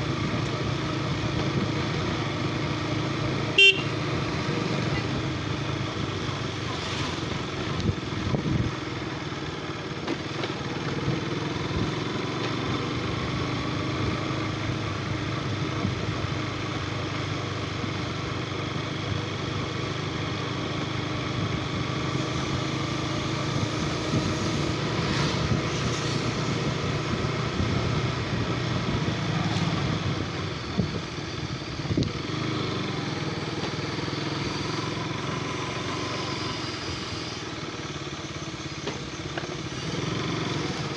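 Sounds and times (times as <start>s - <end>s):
motorcycle engine running: 0.0s - 40.9s
traffic noise: 0.0s - 40.9s.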